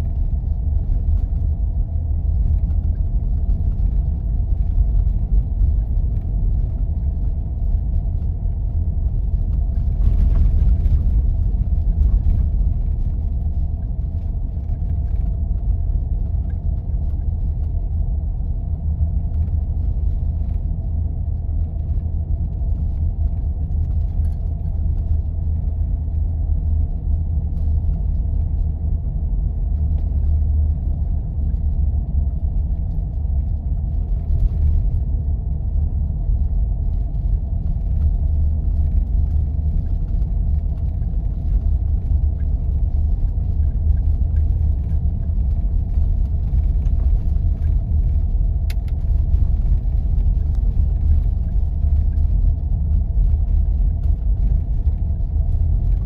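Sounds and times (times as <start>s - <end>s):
vehicle engine and tyre noise: 0.0s - 56.0s.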